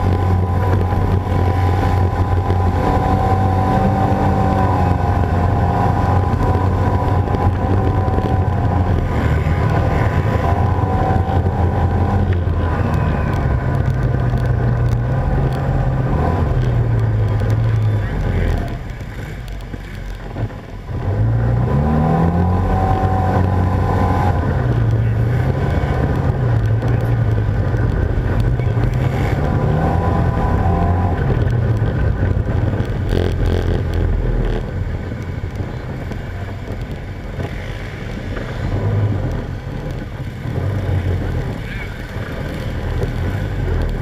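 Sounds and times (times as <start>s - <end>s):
atv engine revving: 0.0s - 44.0s.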